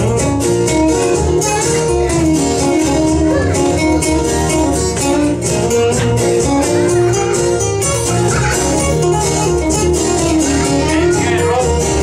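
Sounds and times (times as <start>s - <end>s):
acoustic guitars strumming: 0.0s - 12.0s
held melody line: 0.0s - 12.0s.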